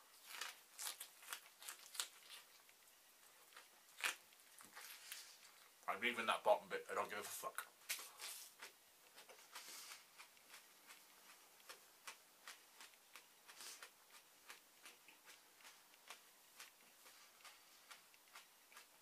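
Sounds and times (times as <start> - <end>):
raw onion being chewed: 0.0 - 6.1, 7.0 - 19.0.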